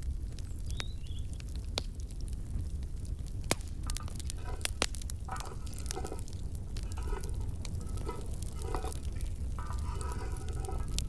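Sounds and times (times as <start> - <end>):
chestnuts crackling and popping: 0.0 - 11.0.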